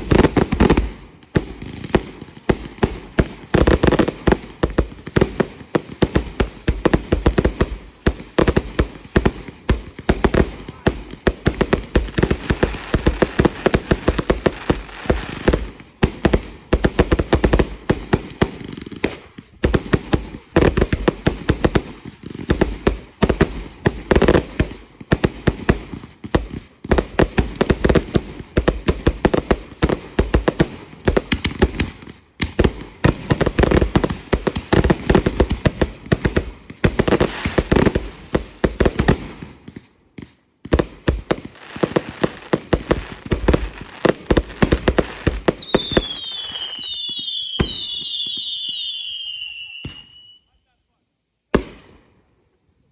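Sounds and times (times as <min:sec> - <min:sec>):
fireworks banging and crackling: 0:00.0 - 0:50.4, 0:51.5 - 0:52.0.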